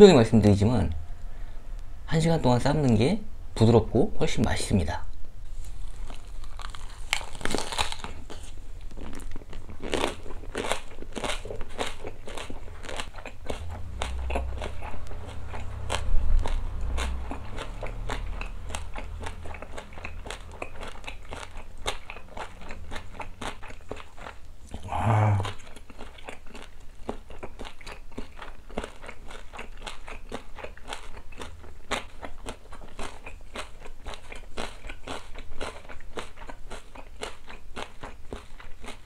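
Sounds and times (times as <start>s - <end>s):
person chewing crunchy food: 5.7s - 39.0s.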